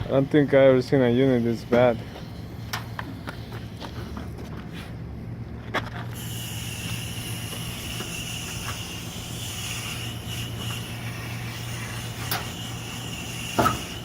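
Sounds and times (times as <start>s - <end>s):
constant high hiss: 0.0s - 14.0s
low machine hum: 0.0s - 14.0s.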